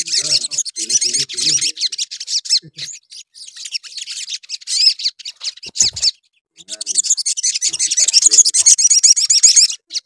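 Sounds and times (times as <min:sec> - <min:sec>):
bird chirping and trilling: 0:00.0 - 0:10.0.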